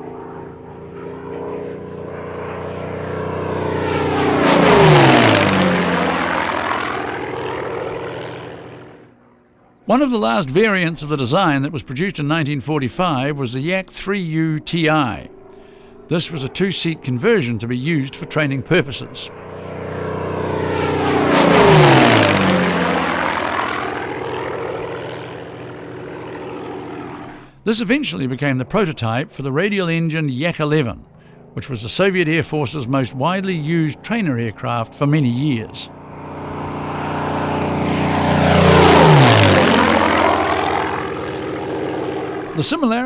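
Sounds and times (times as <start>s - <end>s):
propeller plane flying past: 0.0s - 43.0s.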